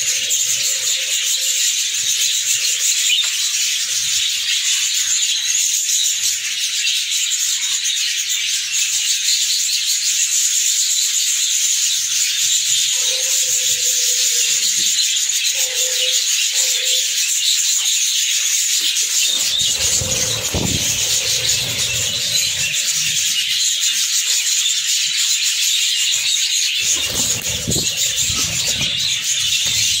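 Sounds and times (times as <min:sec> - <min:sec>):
budgerigars chattering and chirping: 0:00.0 - 0:30.0.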